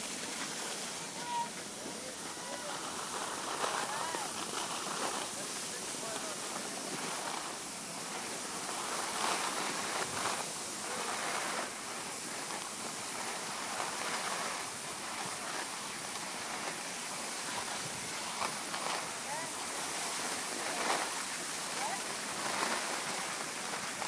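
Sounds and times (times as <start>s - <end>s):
skis sliding over snow: 0.0s - 24.0s.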